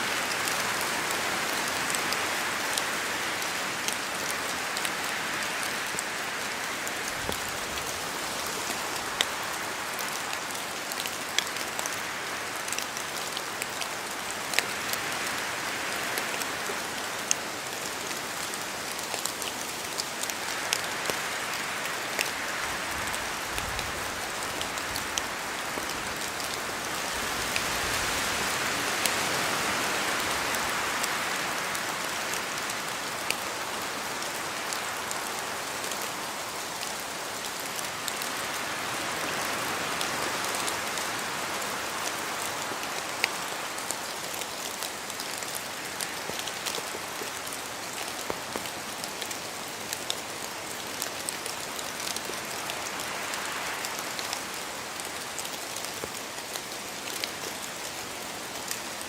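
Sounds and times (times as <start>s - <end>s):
steady rain falling: 0.0s - 59.0s
wind through trees: 0.0s - 59.0s
raindrops ticking close by: 0.2s - 59.0s.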